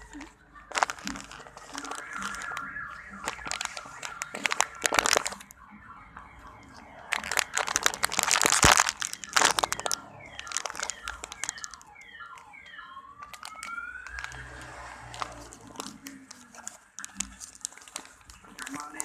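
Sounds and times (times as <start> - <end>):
plastic wrapping crinkling: 0.0 - 5.6, 6.3 - 19.0.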